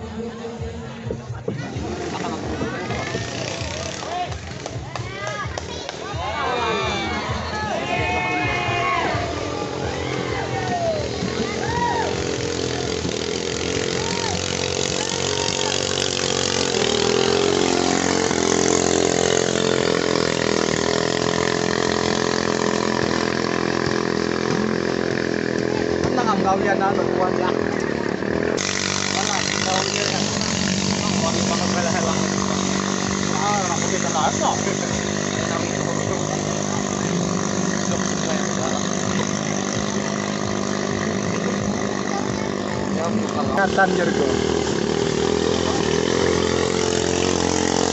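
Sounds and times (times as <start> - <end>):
boat engine running hard: 9.2 - 47.9.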